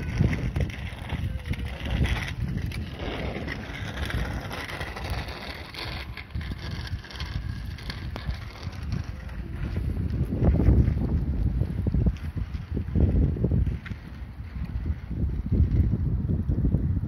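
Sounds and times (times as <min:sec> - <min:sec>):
bicycle tyres rolling on asphalt: 0:00.0 - 0:17.0
wind rumbling on microphone: 0:00.0 - 0:17.0.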